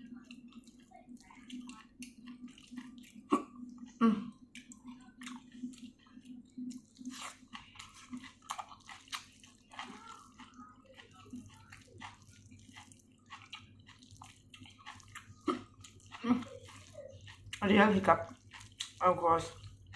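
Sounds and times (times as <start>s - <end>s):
person chewing food: 0.0s - 19.9s.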